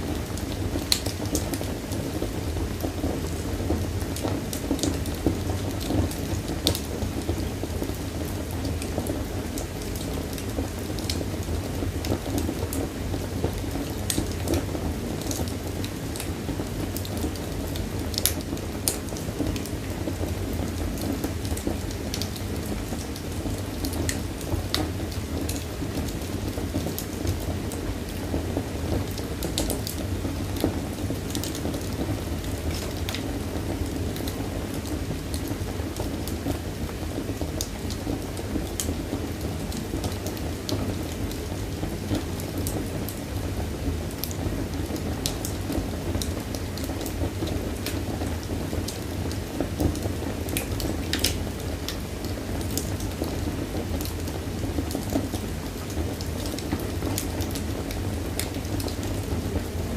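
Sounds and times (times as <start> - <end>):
fire crackles and pops: 0.0 - 59.9
low roar of fire flames: 0.0 - 59.9.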